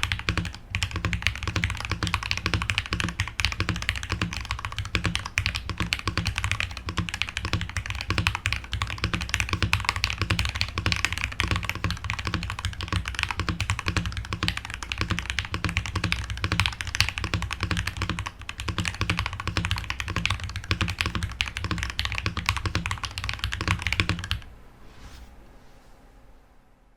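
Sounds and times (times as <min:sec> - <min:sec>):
mechanical keyboard typing: 0:00.0 - 0:24.4.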